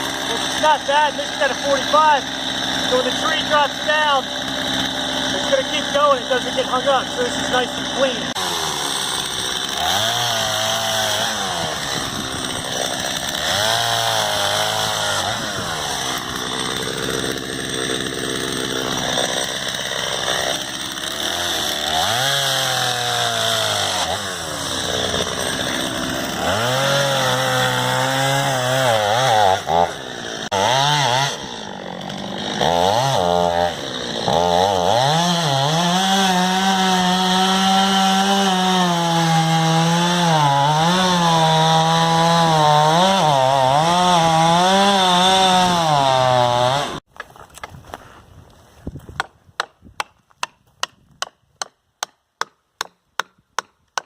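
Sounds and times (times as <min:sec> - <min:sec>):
chainsaw cutting wood: 0:00.0 - 0:48.1, 0:49.0 - 0:54.0.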